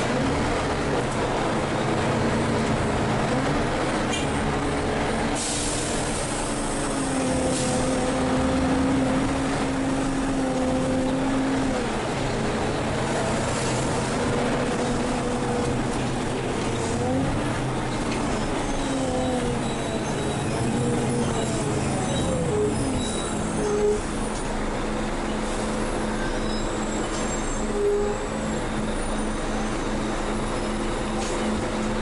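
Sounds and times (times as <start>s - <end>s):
bus diesel engine rumble: 0.0s - 32.0s.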